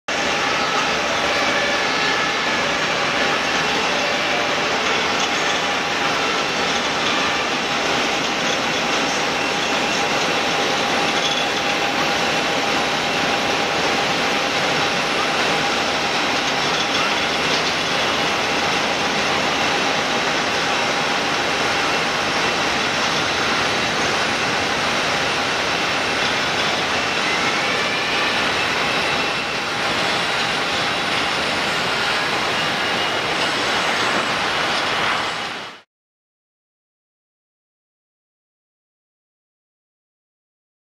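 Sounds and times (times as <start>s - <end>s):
jet engines roaring: 0.1s - 35.8s.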